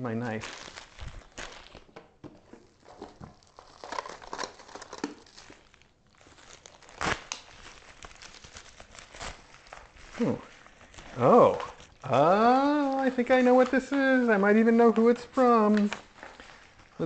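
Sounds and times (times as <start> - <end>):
wrapping tearing: 0.0 - 2.0, 2.6 - 17.0
wrapping crinkling and rustling: 0.0 - 17.0.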